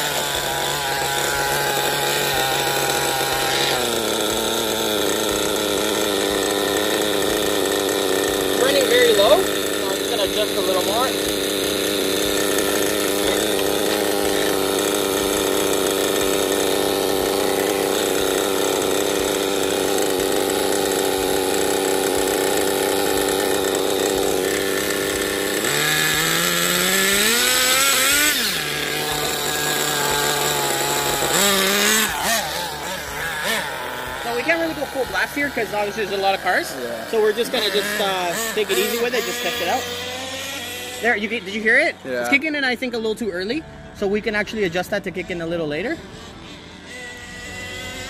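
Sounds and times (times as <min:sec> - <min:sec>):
nitro engine idling and revving: 0:00.0 - 0:48.0.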